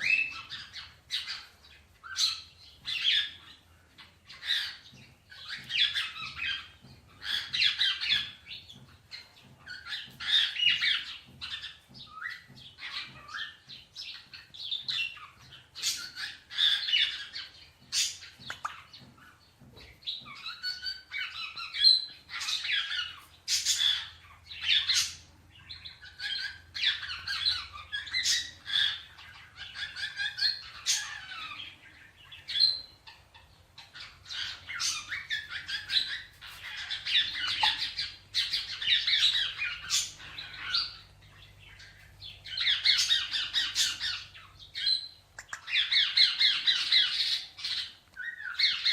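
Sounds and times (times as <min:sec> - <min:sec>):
parrots squawking and chattering: 0:00.0 - 0:48.9.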